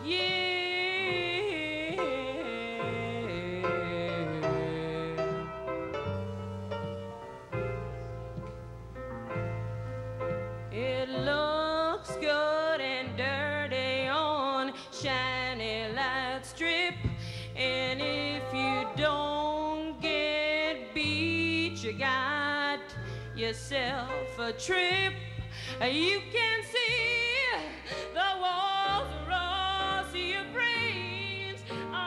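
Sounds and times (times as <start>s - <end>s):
woman singing with vibrato: 0.0s - 5.6s, 10.7s - 32.0s
piano chords: 0.0s - 32.0s.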